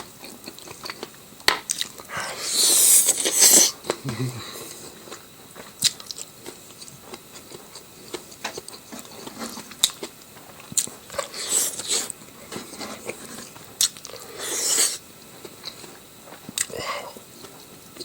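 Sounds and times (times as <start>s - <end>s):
person chewing and biting: 0.2s - 4.0s, 4.6s - 18.0s.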